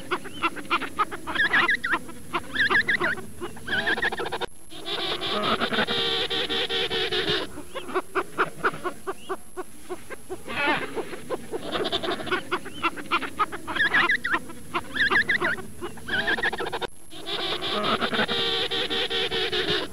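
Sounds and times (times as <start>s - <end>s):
high trilling penguin calls: 0.0s - 19.9s
penguins calling and squawking: 0.0s - 19.9s.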